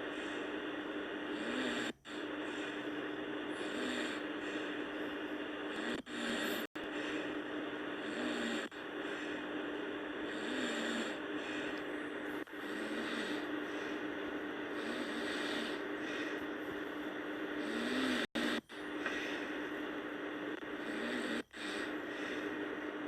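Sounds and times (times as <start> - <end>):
person snoring and breathing heavily: 0.0 - 23.0
steady background hum: 0.0 - 23.0.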